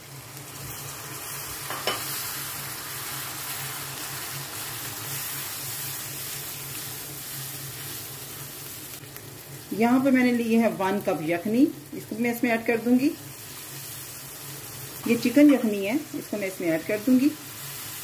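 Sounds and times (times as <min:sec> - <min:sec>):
tomatoes sizzling in hot oil: 0:00.0 - 0:18.0.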